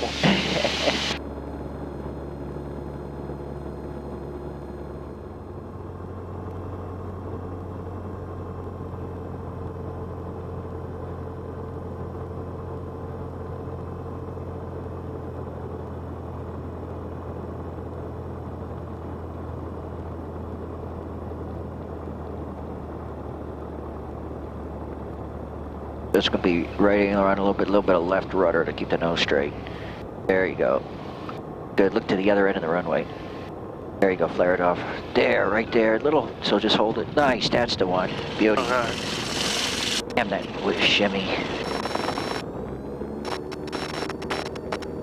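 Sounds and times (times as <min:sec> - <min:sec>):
aircraft engine and propeller droning: 0:00.0 - 0:45.0.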